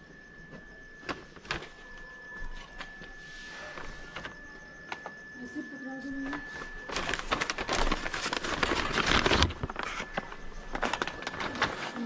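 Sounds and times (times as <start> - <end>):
rustling and crinkling handling: 0.4 - 5.3, 6.1 - 12.0.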